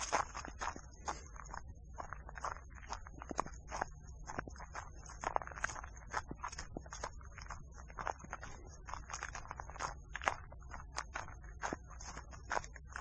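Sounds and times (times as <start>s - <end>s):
footsteps crunching on frozen trail: 0.0s - 13.0s
low steady rumble: 0.0s - 13.0s.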